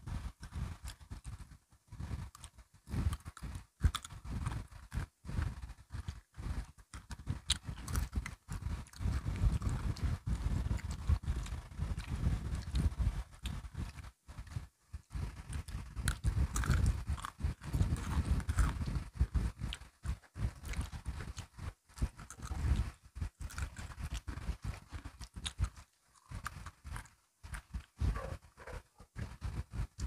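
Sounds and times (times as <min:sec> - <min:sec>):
crunching biscuit sticks: 0:00.2 - 0:28.5.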